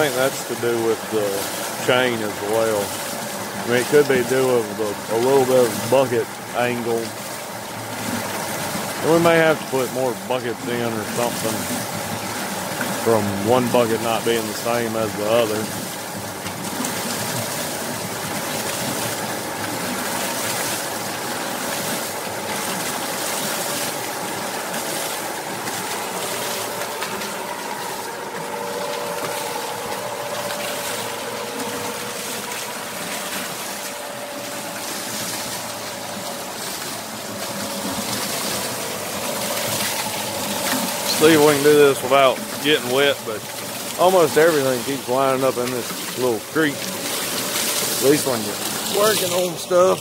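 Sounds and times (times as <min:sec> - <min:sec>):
water rushing and splashing: 0:00.0 - 0:50.0.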